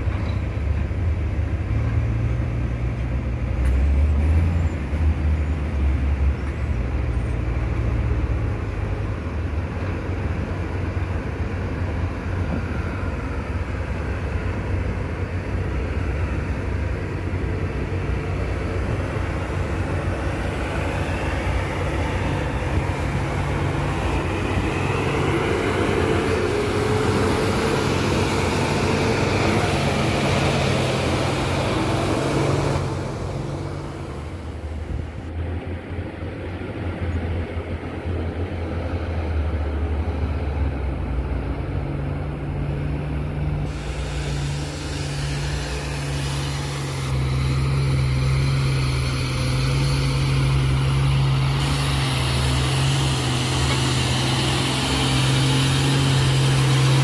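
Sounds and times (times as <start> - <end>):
diesel truck engines straining: 0.0 - 57.0.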